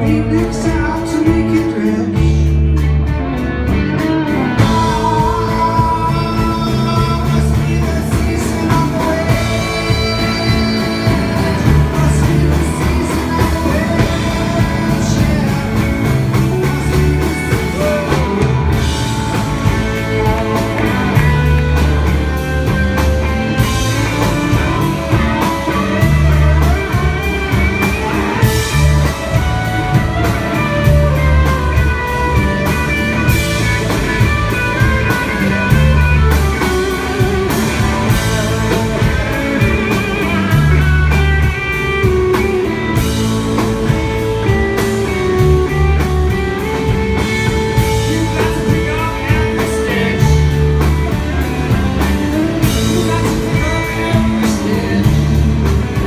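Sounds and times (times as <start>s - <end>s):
electric bass long notes: 0.0s - 56.0s
live rock band playing: 0.0s - 56.0s.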